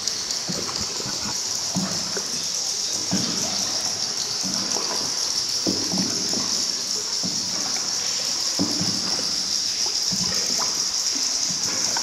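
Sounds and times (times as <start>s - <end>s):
water drips: 0.0s - 12.0s
water trickling and splashing: 0.0s - 12.0s.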